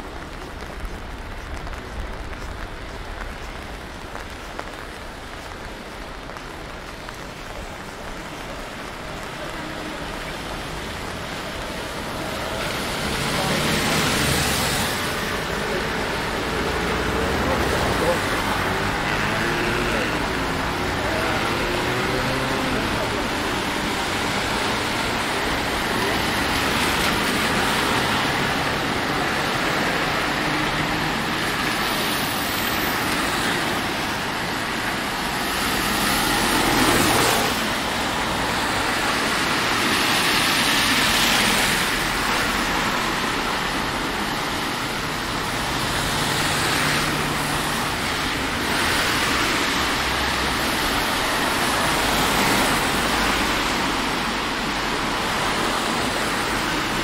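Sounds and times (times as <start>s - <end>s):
steady rain: 0.0s - 57.0s
traffic on wet streets: 0.0s - 57.0s.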